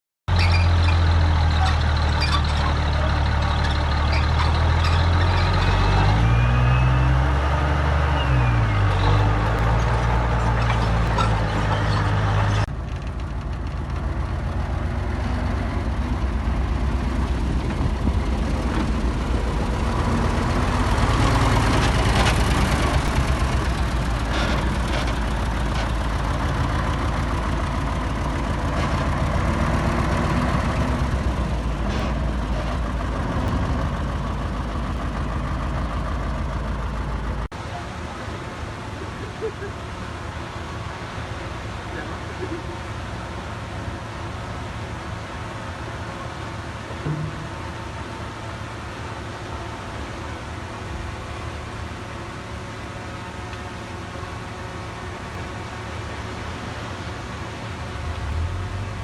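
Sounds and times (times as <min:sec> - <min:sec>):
diesel engine running steadily: 0:00.3 - 0:59.0
diesel machinery under load: 0:00.3 - 0:59.0.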